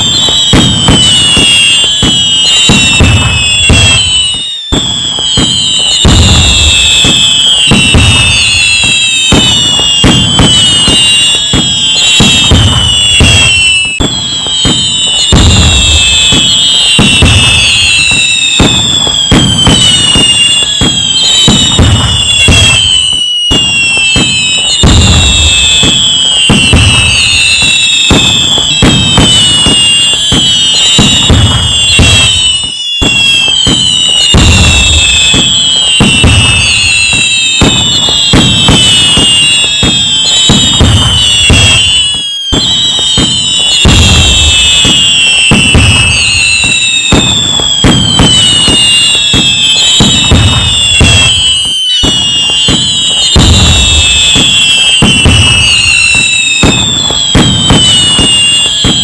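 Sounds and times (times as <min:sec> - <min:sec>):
falling whistling tones: 0:00.0 - 0:59.0
fireworks crackling and banging: 0:00.0 - 0:59.0.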